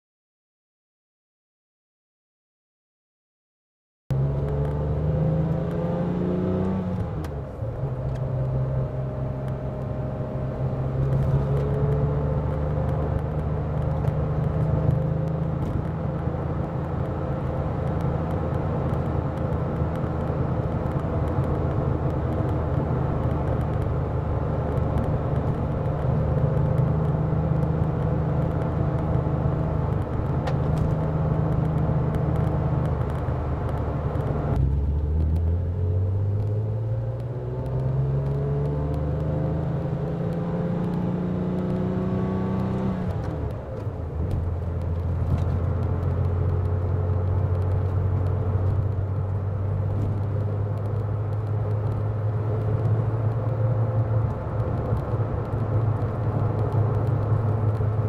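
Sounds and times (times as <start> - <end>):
car engine from inside cabin: 4.1 - 58.0
road and tyre noise: 4.1 - 58.0.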